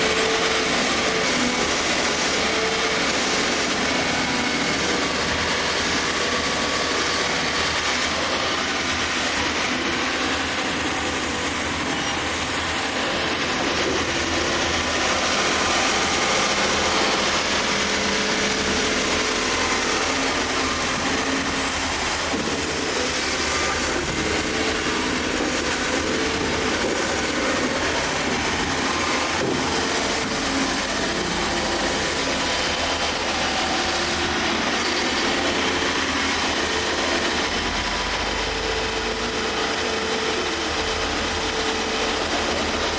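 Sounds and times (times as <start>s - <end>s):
excavator diesel engine and hydraulics: 0.0s - 42.9s.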